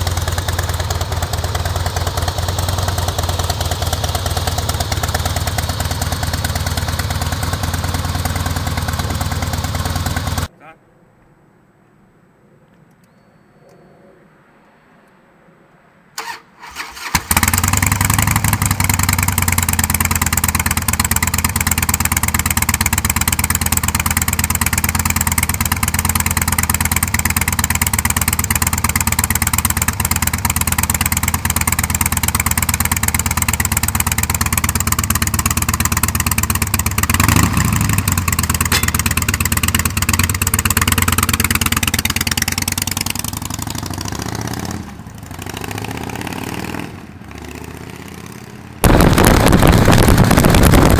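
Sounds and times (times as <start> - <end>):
motorcycle engine revving: 0.0 - 10.5, 16.2 - 50.9
motorcycle engine starting: 0.0 - 10.5, 16.2 - 50.9
motorcycle idling: 0.0 - 10.5, 17.0 - 50.9
motorcycle riding off: 0.0 - 10.5, 16.2 - 50.9.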